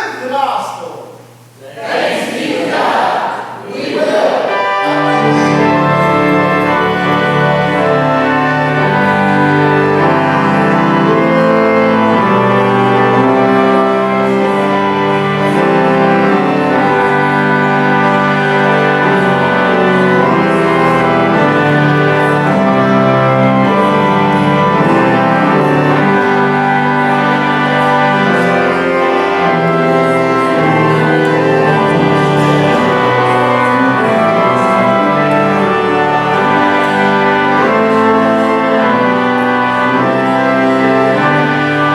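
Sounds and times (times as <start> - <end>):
organ chords: 0.0 - 41.9.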